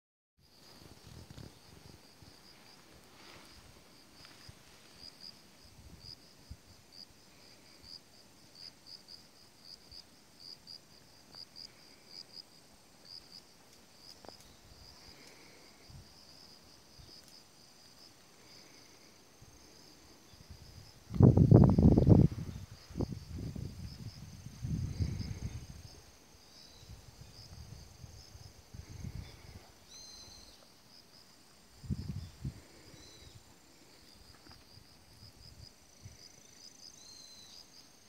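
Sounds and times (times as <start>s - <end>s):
insect chirping: 0.4s - 38.0s.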